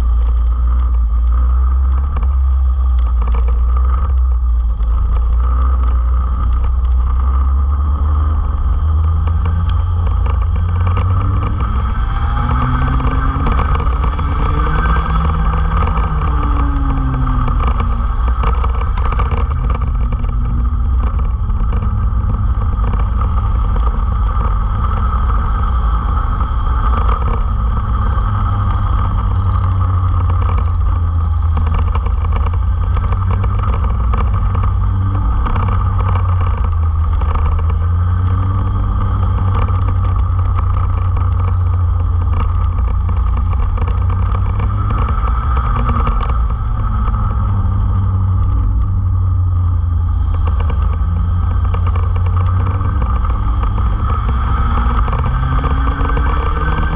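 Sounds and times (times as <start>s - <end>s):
go-kart engines racing: 0.0s - 56.9s.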